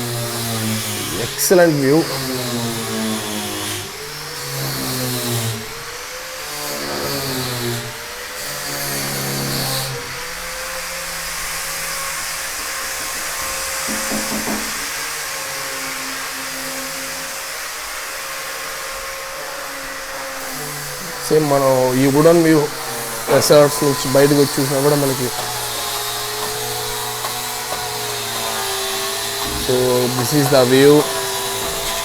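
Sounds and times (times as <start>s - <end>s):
power tool whining: 0.0s - 32.0s.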